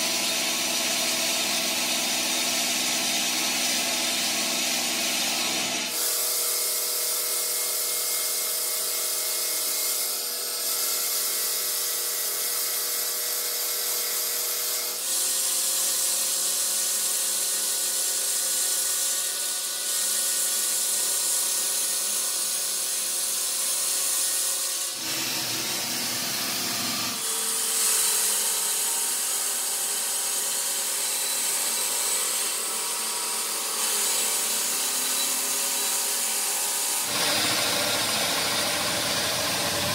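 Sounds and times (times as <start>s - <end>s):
saw blade grinding through stone: 0.0s - 39.9s.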